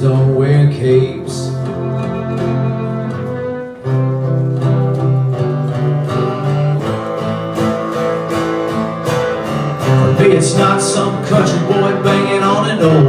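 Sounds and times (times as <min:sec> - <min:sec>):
country band playing: 0:00.0 - 0:13.0
strummed acoustic guitar: 0:00.0 - 0:13.0.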